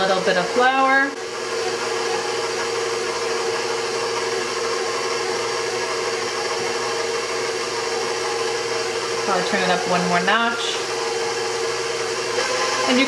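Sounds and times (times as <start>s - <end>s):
stand mixer motor whirring: 0.0s - 13.0s.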